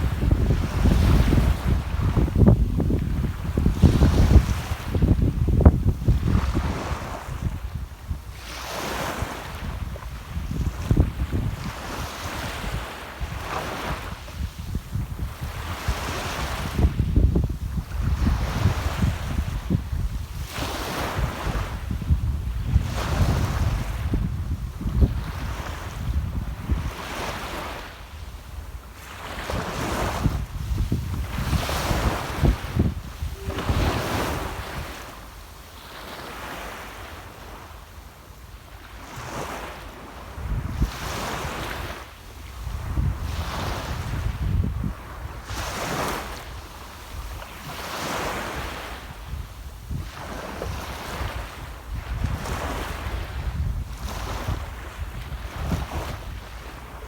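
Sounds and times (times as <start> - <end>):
wind buffeting microphone: 0.0 - 8.4, 9.1 - 28.7, 29.4 - 36.1, 40.3 - 41.9, 42.5 - 47.3, 48.7 - 57.0
small waves breaking on shore: 0.0 - 57.0.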